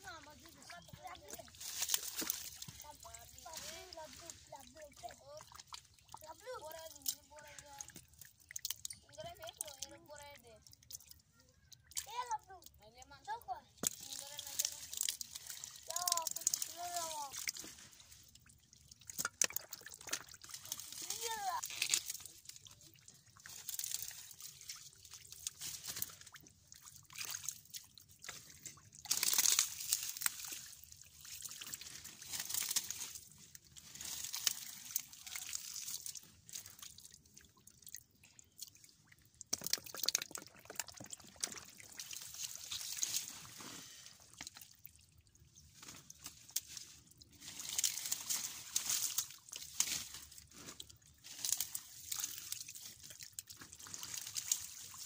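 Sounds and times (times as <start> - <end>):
water trickling: 0.0 - 55.0
hands splashing in muddy water: 0.3 - 9.9, 13.8 - 44.8, 45.5 - 55.0.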